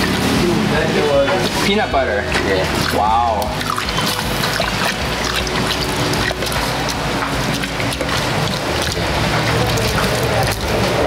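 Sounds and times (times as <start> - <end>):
ladle scraping a metal pot: 1.3 - 11.0.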